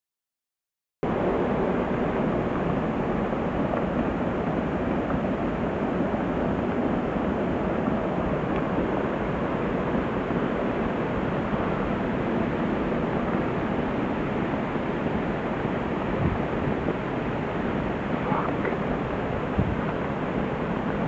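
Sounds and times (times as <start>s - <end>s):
avalanche roar of sliding snow: 1.1s - 21.0s.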